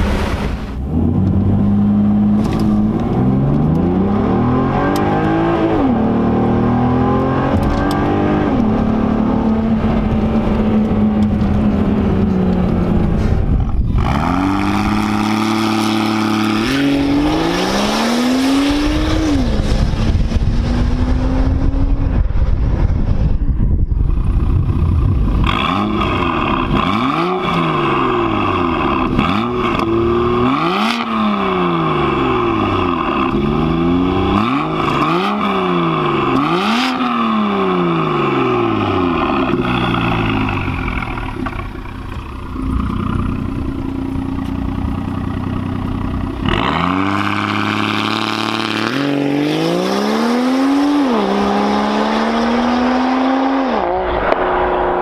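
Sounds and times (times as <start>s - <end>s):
car engine revving: 0.0s - 22.4s, 24.2s - 55.0s.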